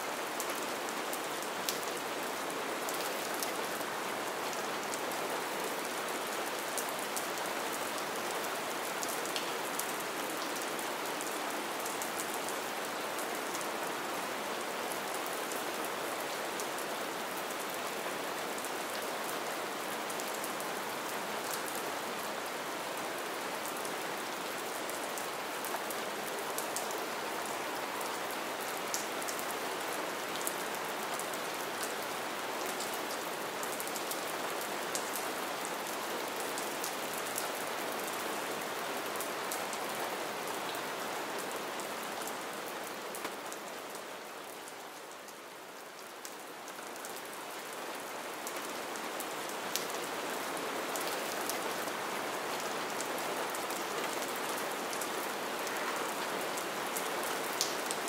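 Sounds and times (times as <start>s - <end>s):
light rain hiss: 0.0s - 58.0s.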